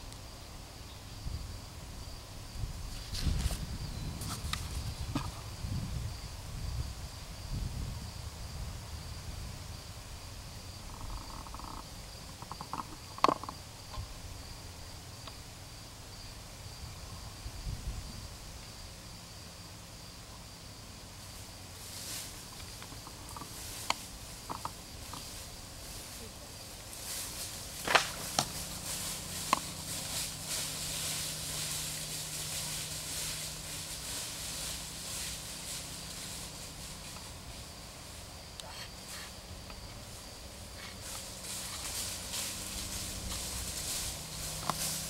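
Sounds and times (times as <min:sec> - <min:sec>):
cricket trill: 0:00.0 - 0:45.0.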